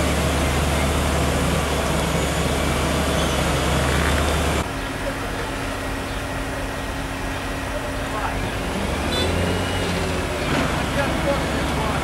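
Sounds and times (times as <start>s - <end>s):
paver diesel engine running: 0.0s - 12.0s
road roller engine running: 0.0s - 12.0s.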